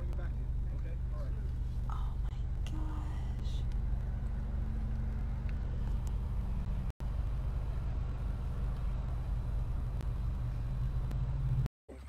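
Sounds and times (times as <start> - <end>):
car engine hum and road noise: 0.0 - 12.0.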